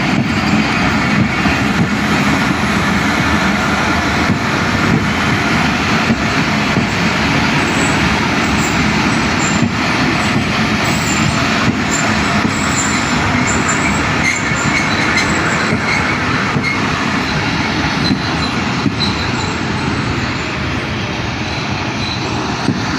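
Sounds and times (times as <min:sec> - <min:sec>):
high wheel squeals: 0:00.0 - 0:04.9, 0:06.2 - 0:22.9
train rumbling on rails: 0:00.0 - 0:22.9.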